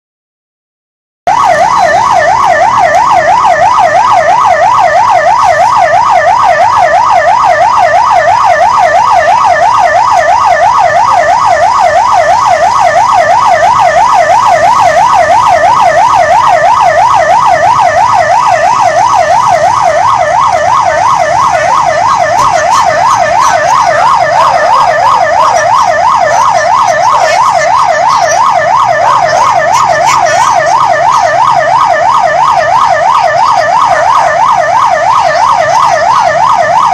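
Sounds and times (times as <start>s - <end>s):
police siren warbling: 1.3s - 36.9s.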